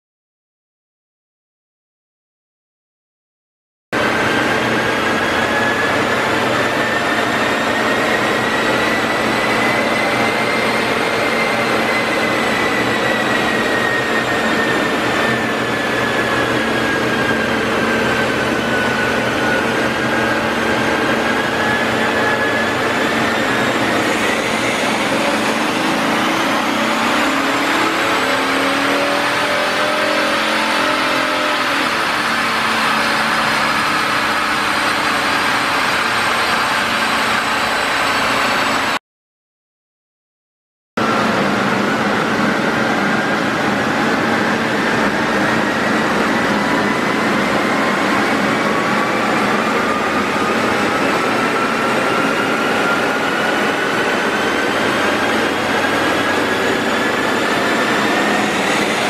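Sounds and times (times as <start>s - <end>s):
diesel engine running under load: 4.0s - 39.0s, 41.0s - 59.0s
wheels driving dyno rollers: 4.0s - 39.0s, 41.0s - 59.0s
whine rising and falling in pitch: 4.0s - 39.0s, 41.0s - 59.0s.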